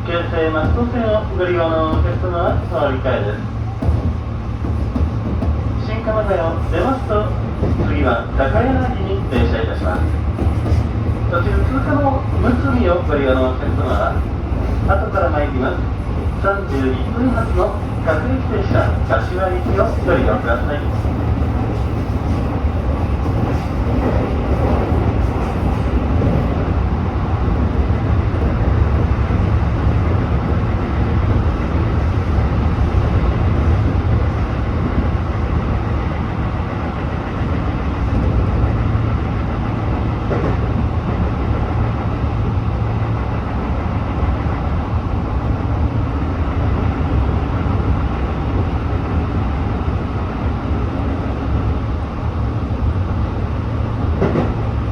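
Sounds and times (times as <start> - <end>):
train wheels rumbling: 0.0 - 54.9.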